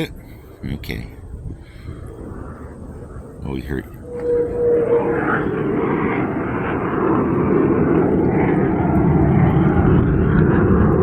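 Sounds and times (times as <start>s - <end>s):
jet aircraft flying overhead: 0.0s - 11.0s.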